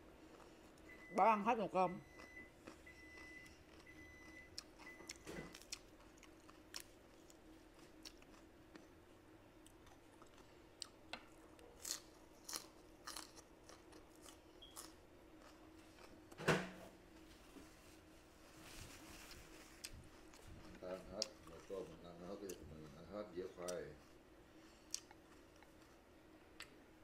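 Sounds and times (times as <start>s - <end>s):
chewing and mouth clicks: 0.2s - 1.0s, 2.1s - 8.9s, 9.6s - 16.2s, 19.2s - 26.8s.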